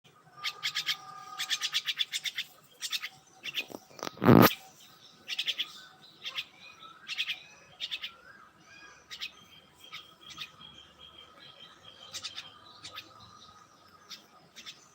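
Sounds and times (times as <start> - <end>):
small birds chirping: 0.2 - 14.9.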